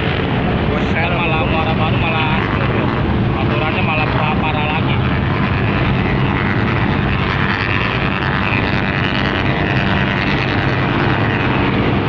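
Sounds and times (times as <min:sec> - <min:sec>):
dense noise: 0:00.0 - 0:12.0
motor droning: 0:00.0 - 0:12.0.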